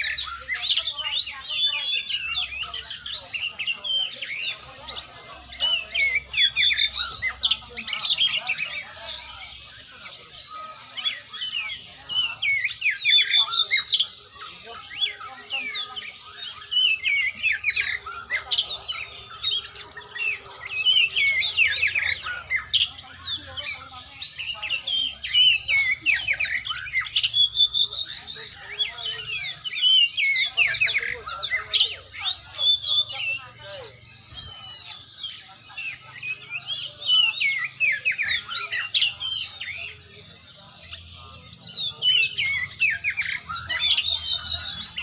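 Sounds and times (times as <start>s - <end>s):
magpie-robin singing: 0.0s - 45.0s.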